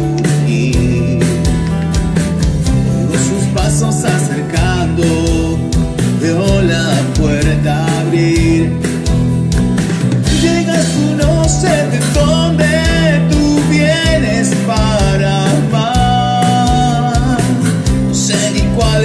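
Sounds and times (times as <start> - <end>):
pop-rock band playing: 0.0 - 19.0.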